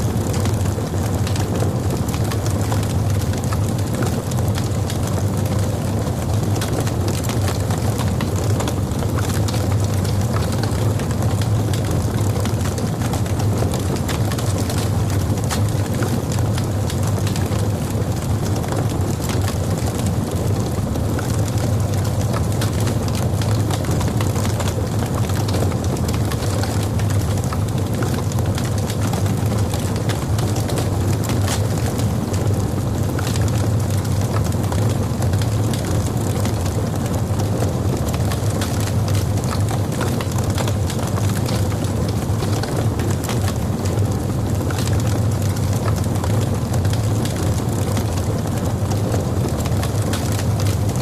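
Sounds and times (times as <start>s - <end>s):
logs burning with crackles: 0.0s - 51.0s.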